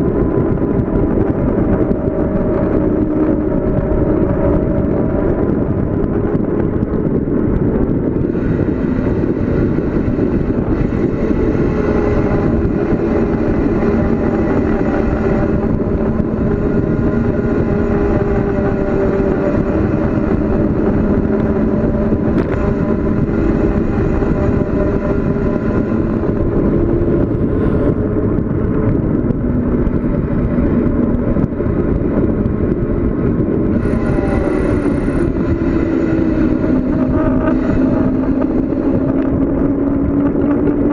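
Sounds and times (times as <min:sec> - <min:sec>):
bicycle road noise: 0:00.0 - 0:40.9
wind rushing: 0:00.0 - 0:40.9.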